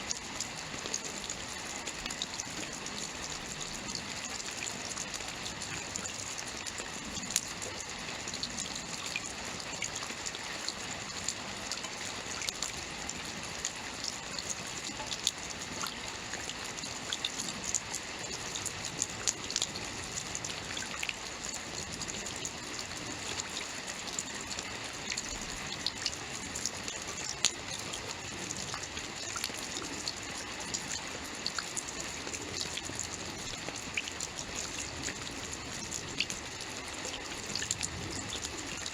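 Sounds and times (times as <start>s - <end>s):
steady rainfall with drop ticks: 0.0s - 38.9s.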